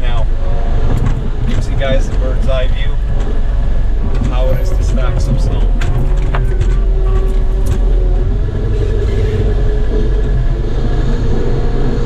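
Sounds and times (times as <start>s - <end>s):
steady whine: 0.0s - 12.0s
wheel loader diesel engine: 0.0s - 12.0s.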